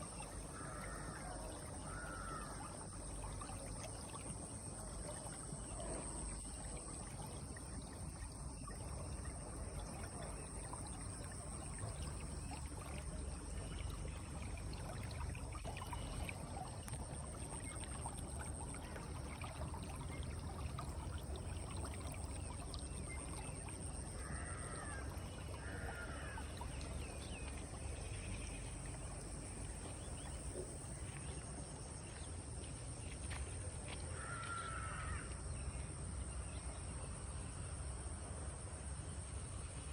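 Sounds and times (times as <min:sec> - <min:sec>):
flowing water rushing: 0:00.0 - 0:32.4
high insect drone: 0:00.3 - 0:32.3.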